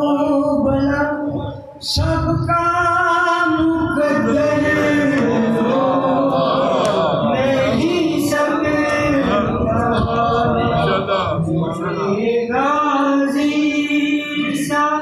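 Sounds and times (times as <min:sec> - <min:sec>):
man singing into a microphone: 0:00.0 - 0:06.1, 0:07.2 - 0:15.0.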